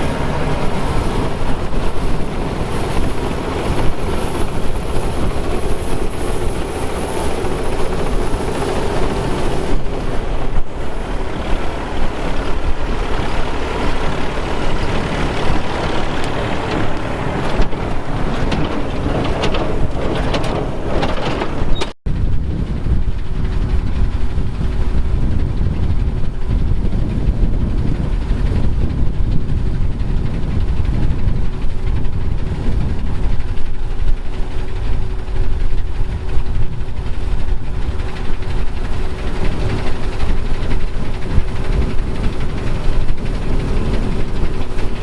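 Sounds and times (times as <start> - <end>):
harvest machinery running: 0.0 - 45.0.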